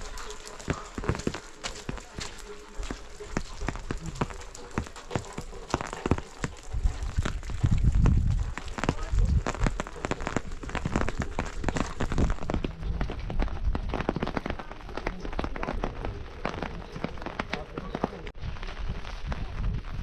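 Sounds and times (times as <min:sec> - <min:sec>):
heavy rain: 0:00.0 - 0:20.0
raindrops tapping close by: 0:00.0 - 0:20.0.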